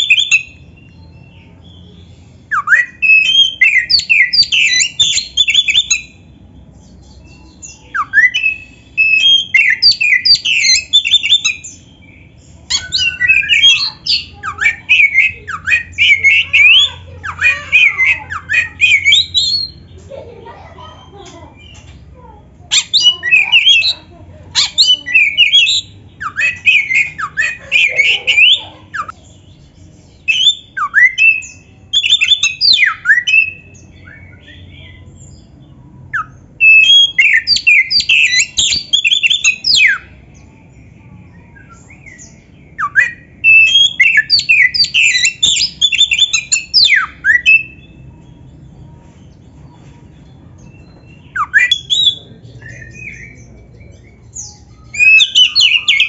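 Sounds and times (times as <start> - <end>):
bird singing whistles and chatter: 0.0 - 19.9, 22.7 - 56.0.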